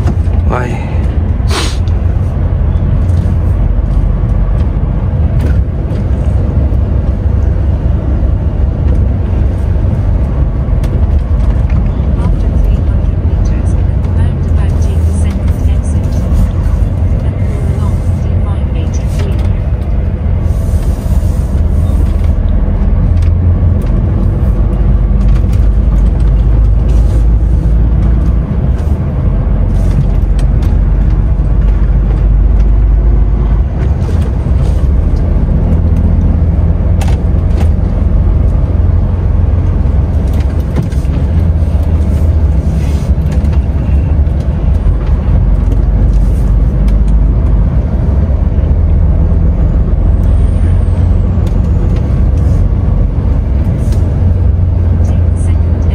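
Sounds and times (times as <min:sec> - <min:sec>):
diesel truck engine droning: 0:00.0 - 0:55.9.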